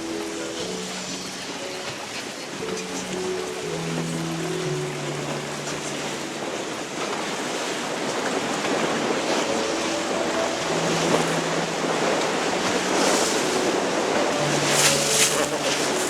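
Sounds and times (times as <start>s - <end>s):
water rushing past a boat: 0.0s - 16.0s.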